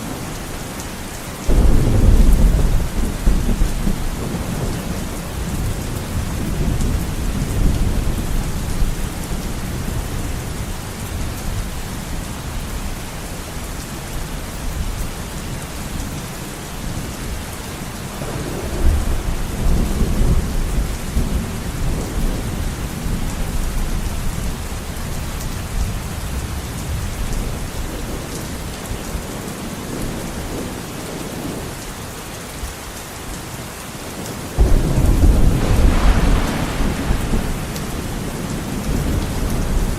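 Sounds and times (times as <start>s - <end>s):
heavy rain on a window: 0.0s - 39.9s
wind: 0.0s - 39.9s.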